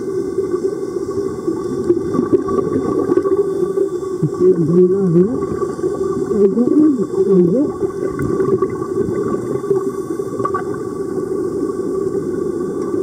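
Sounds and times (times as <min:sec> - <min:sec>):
faint steady tones: 0:00.0 - 0:13.0
underwater low rumble and hum: 0:00.0 - 0:13.0.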